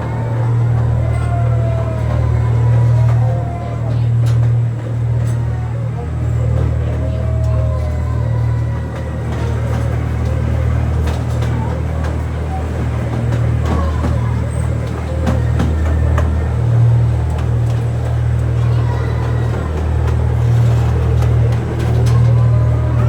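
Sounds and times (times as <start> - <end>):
train low drone: 0.0 - 23.0.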